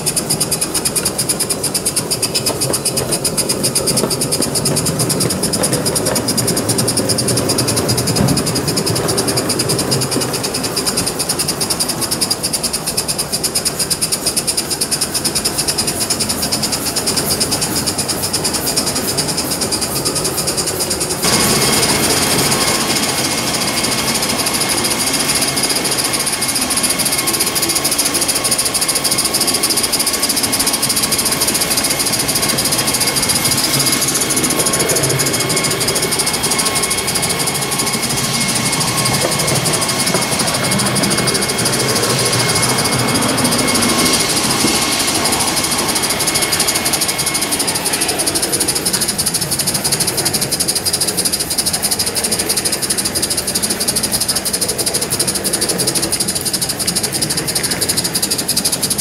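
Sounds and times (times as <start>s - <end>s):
steam hiss: 0.0s - 59.0s
steam locomotive exhaust: 0.0s - 59.0s
wheels rattling on track: 0.0s - 59.0s.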